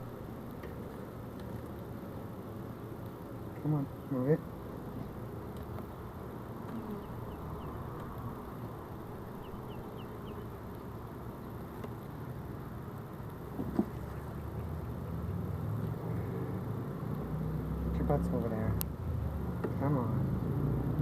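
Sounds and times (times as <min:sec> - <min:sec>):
honeybees buzzing: 0:00.0 - 0:19.1.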